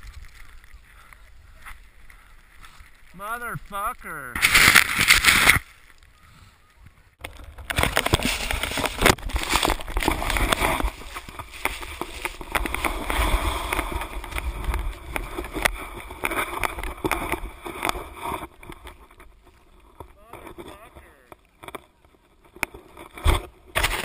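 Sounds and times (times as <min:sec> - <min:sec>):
snow knocking and scraping camera: 0:00.0 - 0:24.0.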